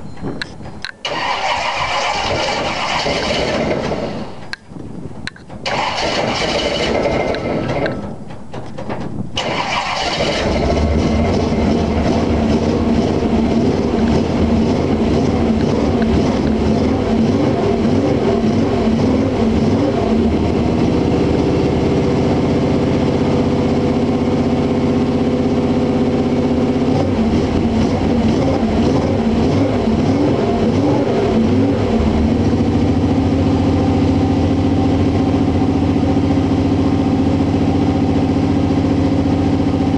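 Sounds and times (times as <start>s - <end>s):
engine starting and idling: 1.0s - 4.6s, 5.4s - 39.8s.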